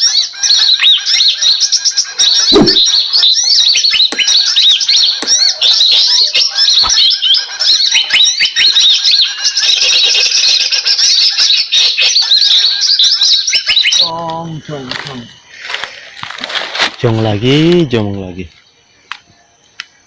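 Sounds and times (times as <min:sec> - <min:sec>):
small birds chattering: 0:00.0 - 0:16.2, 0:17.0 - 0:20.0.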